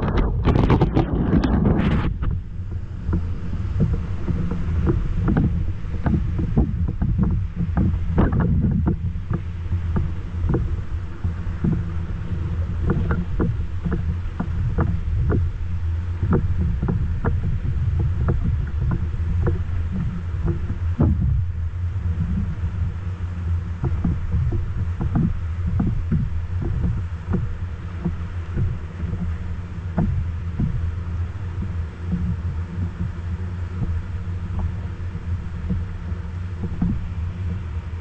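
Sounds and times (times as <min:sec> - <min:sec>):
water splashes and knocks: 0:00.0 - 0:23.0, 0:23.7 - 0:38.0.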